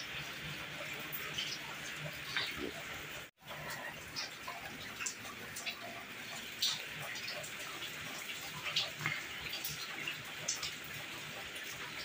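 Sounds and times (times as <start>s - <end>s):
water drips and splashes: 0.0s - 12.0s.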